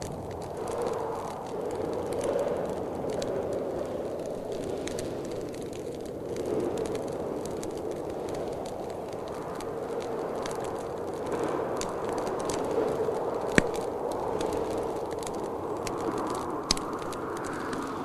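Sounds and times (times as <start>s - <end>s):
wind rushing: 0.0s - 18.0s
wood fire crackling: 0.0s - 18.0s.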